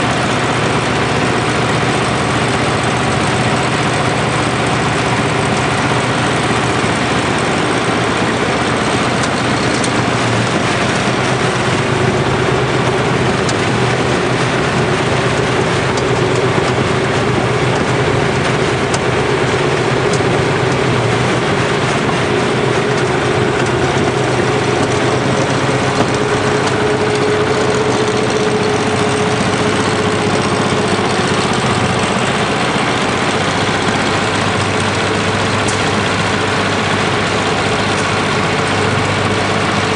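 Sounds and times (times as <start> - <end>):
feed mixer machine drone: 0.0 - 39.9.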